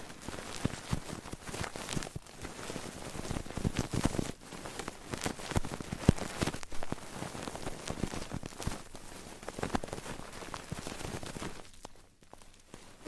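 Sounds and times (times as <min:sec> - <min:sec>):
soft crackles and clicks: 0:00.0 - 0:13.0.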